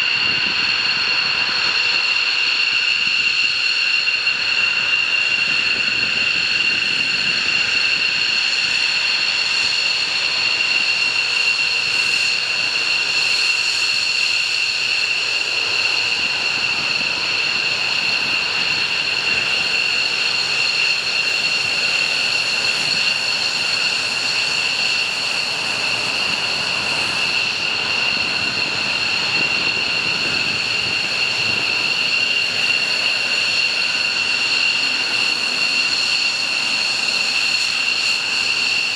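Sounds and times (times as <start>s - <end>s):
jet engines idling whine: 0.0s - 38.9s.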